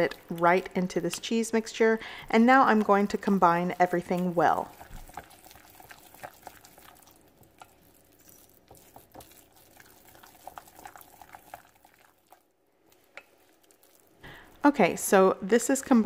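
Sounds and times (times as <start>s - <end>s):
wet squishing of stirred mixture: 0.0s - 15.2s.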